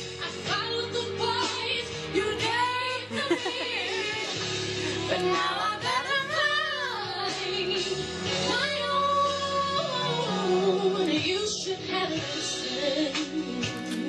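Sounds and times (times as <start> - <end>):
pop song with woman singing: 0.0 - 14.0.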